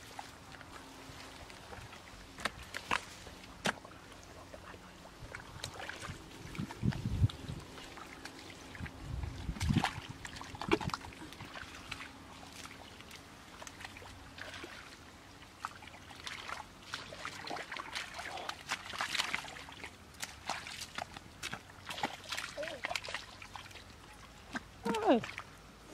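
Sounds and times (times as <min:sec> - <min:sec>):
hands squelching through wet mud: 0:00.0 - 0:25.9
muddy water splashing: 0:00.0 - 0:25.9.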